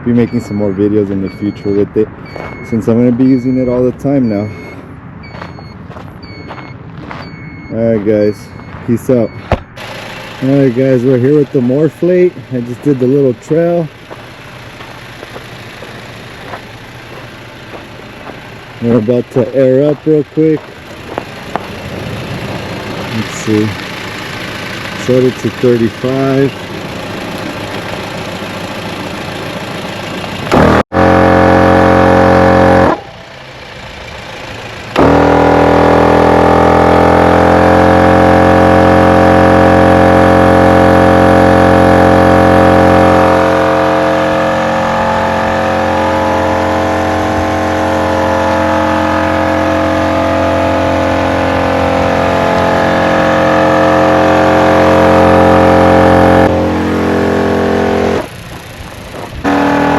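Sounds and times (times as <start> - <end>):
air compressor humming: 9.6 - 59.9.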